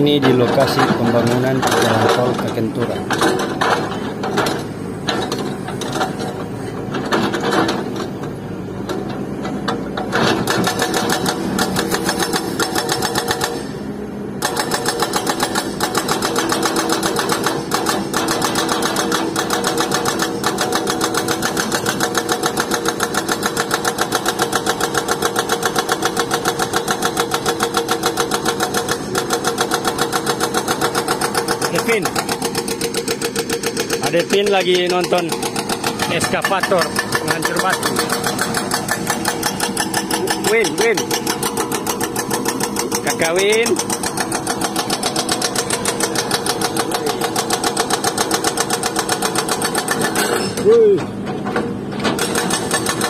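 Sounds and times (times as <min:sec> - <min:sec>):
hydraulic breaker hammering rock: 0:00.0 - 0:08.2, 0:09.5 - 0:53.0.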